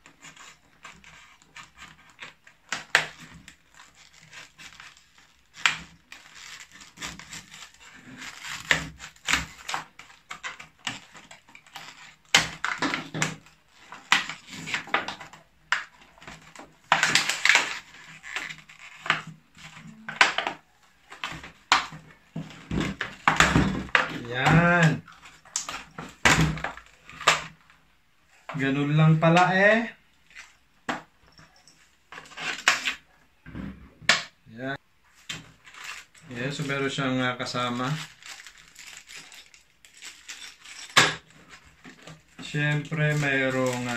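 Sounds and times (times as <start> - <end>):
knife cutting hard plastic package: 0.0 - 27.6, 32.2 - 33.0, 35.2 - 36.8, 37.4 - 43.9
plastic pulled apart by hand: 0.0 - 27.6, 35.2 - 43.9.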